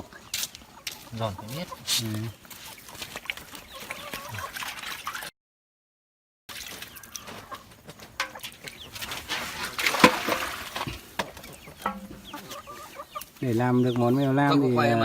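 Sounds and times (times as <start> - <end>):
chickens clucking: 0.0 - 5.3, 6.5 - 15.0.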